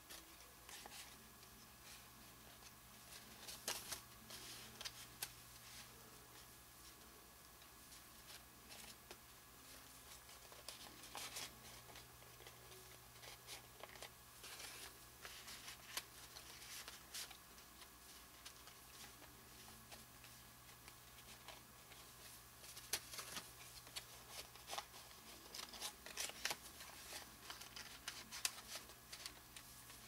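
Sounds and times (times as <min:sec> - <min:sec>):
paper rustling and crinkling: 0:00.0 - 0:07.1, 0:07.9 - 0:30.0.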